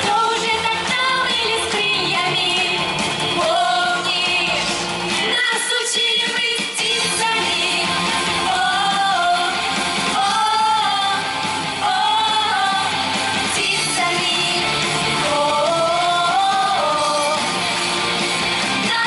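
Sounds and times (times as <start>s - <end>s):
person singing: 0.0s - 17.8s, 18.6s - 19.0s.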